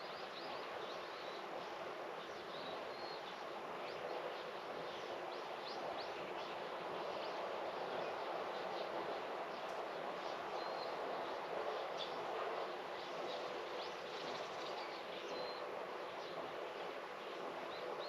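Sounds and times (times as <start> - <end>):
outdoor ambient hiss: 0.0 - 18.0.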